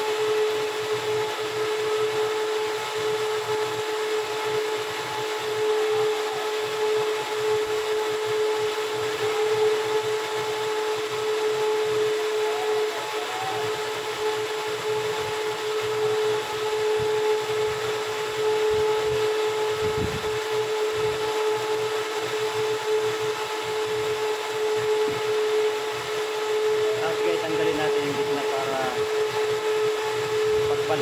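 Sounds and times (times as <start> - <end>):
machine whirring and humming: 0.0 - 31.0.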